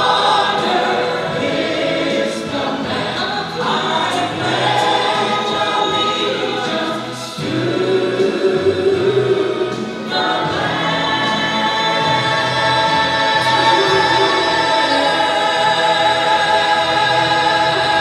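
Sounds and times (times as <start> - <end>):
gospel choir singing a hymn: 0.0 - 18.0.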